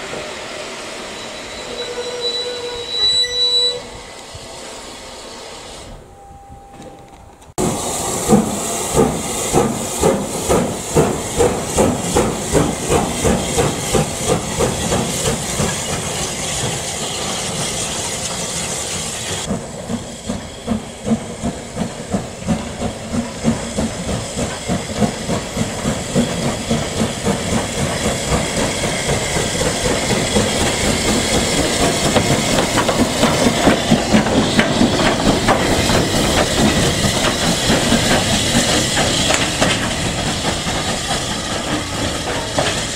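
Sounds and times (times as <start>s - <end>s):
steam hissing: 0.0s - 6.1s, 7.6s - 42.9s
steam locomotive chuffing: 7.6s - 42.9s.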